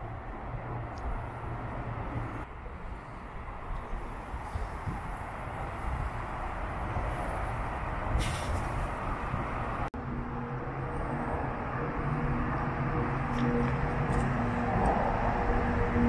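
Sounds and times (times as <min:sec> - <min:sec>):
city traffic noise: 0:00.0 - 0:16.0
low engine hum: 0:00.0 - 0:16.0.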